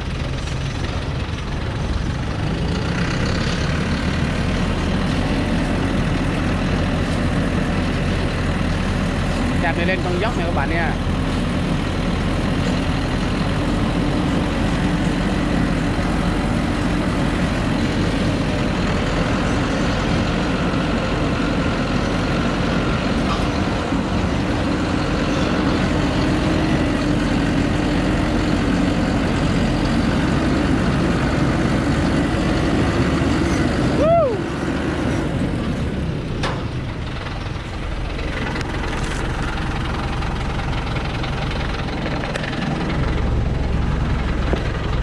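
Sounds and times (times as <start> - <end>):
truck engine under load: 0.0 - 45.0.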